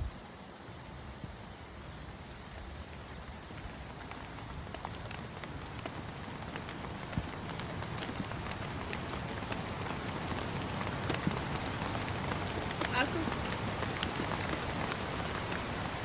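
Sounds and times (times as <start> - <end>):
steady rain falling: 0.0 - 16.0
sharp raindrop ticks: 1.3 - 16.0.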